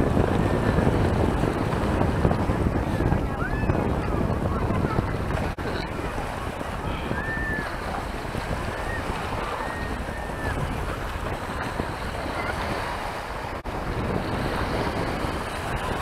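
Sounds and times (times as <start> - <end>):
choppy sea water washing: 0.0 - 16.0
wind buffeting microphone: 0.0 - 16.0.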